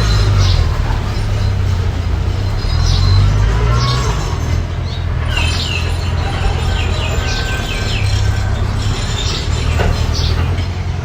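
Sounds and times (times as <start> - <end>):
high falling chirps: 0.0 - 10.6
bulldozer engine rumbling: 0.0 - 11.0.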